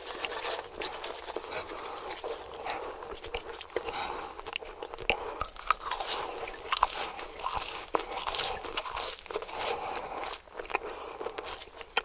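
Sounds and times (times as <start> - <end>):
chewing crispy fried food: 0.0 - 12.0.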